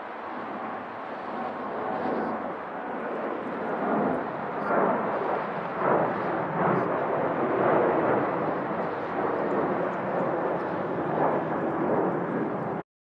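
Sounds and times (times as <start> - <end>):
jet engines passing overhead: 0.0 - 12.8.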